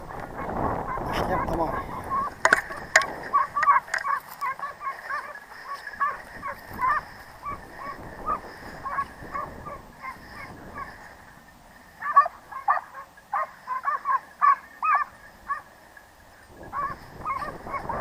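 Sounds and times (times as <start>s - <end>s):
short animal calls: 0.0s - 15.9s, 16.5s - 18.0s.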